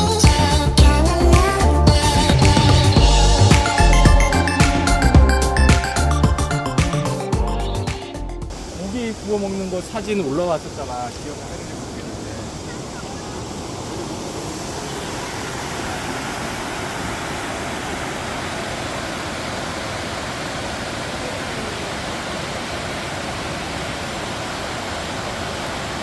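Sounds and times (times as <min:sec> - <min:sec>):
waterfall rushing: 0:01.5 - 0:07.2, 0:08.5 - 0:26.0.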